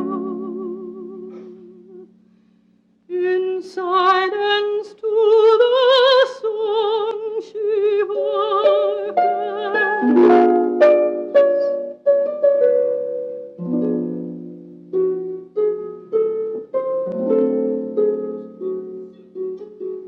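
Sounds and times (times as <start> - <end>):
plucked harp-like string melody: 0.0 - 2.3, 5.1 - 20.0.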